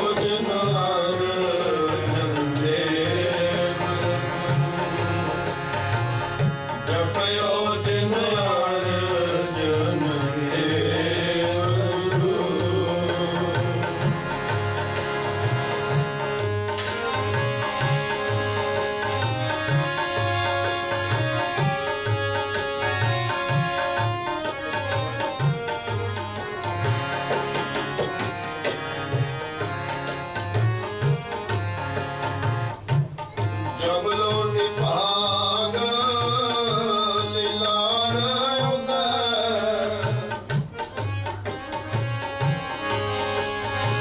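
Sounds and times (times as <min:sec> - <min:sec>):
harmonium chords: 0:00.0 - 0:44.0
tabla beat: 0:00.0 - 0:44.0.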